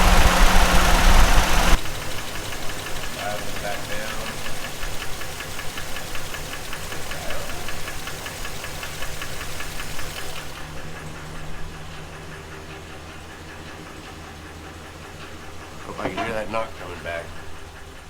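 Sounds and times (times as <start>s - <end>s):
engine idling with ticking knock: 0.0s - 18.0s.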